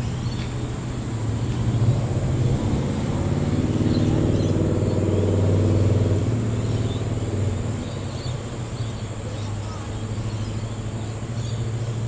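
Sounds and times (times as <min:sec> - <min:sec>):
vehicle engine driving past: 0:00.0 - 0:12.0.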